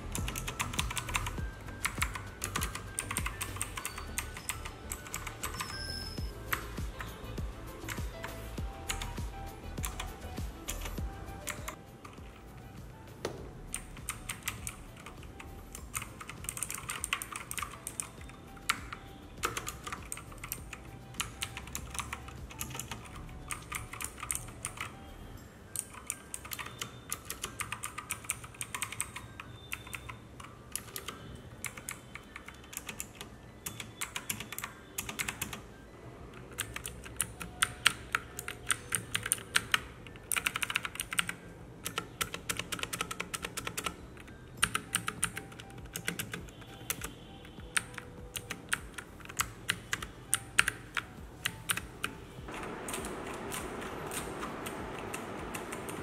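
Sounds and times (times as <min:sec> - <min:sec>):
mechanical keyboard typing: 0:00.0 - 0:12.8, 0:13.6 - 0:56.0.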